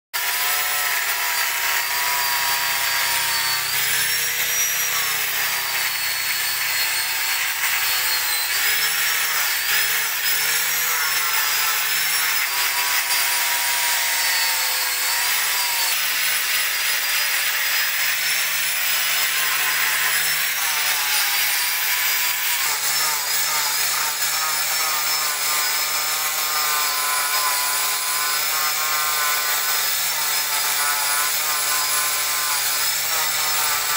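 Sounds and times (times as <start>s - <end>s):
angle grinder grinding wood: 0.2s - 33.9s.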